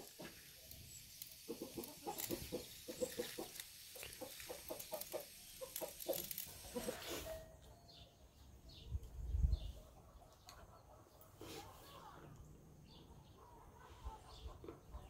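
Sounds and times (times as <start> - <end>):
chickens clucking: 0.0 - 7.7, 9.7 - 12.3, 13.2 - 15.0.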